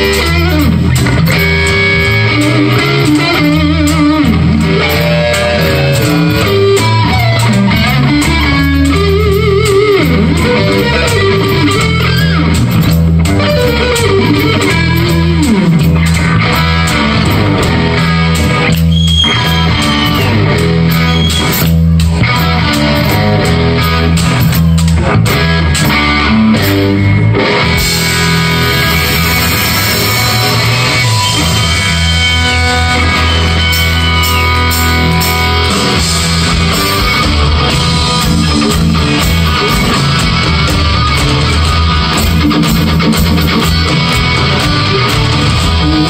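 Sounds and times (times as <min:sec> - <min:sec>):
bent guitar notes: 0:00.0 - 0:46.0
rock band playing: 0:00.0 - 0:46.0.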